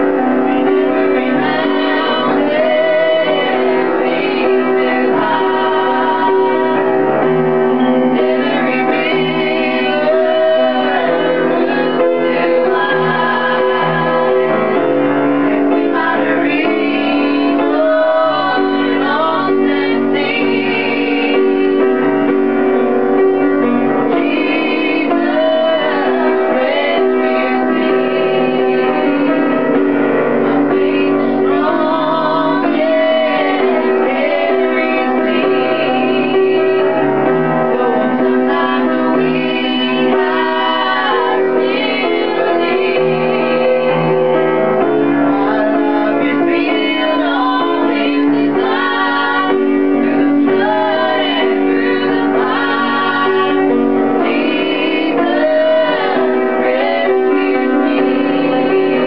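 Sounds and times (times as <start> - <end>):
piano accompaniment: 0.0 - 59.0
three-part harmony singing: 0.0 - 59.0.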